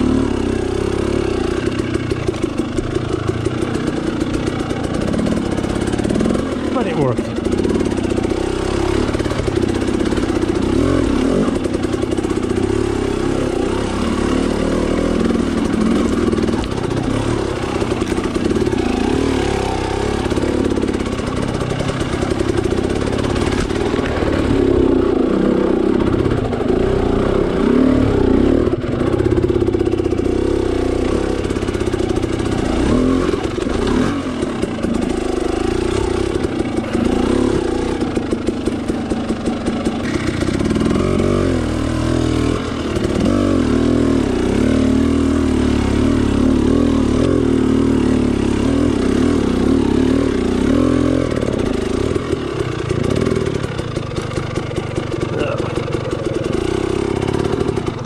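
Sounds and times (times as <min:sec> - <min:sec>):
dirt bike engine under load: 0:00.0 - 0:58.0.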